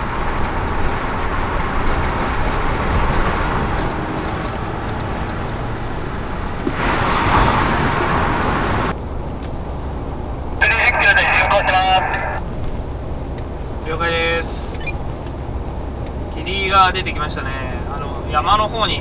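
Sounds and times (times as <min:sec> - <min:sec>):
car road and engine noise inside cabin: 0:00.0 - 0:19.0.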